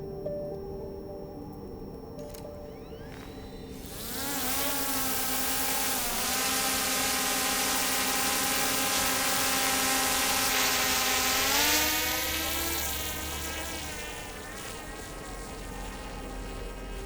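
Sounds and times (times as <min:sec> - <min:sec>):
drone propellers buzzing: 0:02.2 - 0:17.0.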